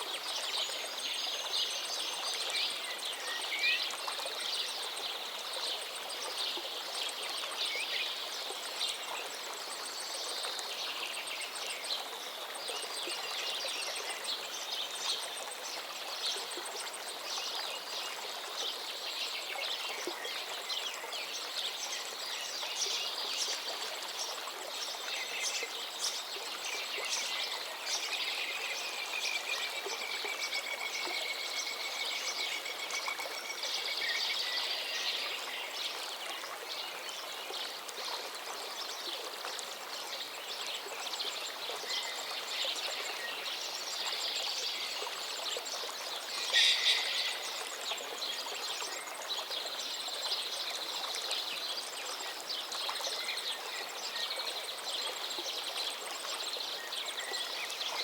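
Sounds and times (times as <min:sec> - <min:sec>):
songbirds singing: 0:00.0 - 0:37.8, 0:40.0 - 0:58.0
gently flowing stream: 0:00.0 - 0:58.0.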